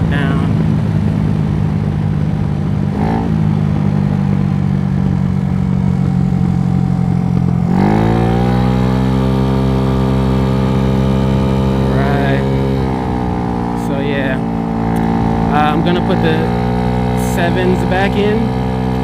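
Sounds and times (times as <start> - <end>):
scooter engine running: 0.0 - 19.0
wind and road noise: 0.0 - 19.0.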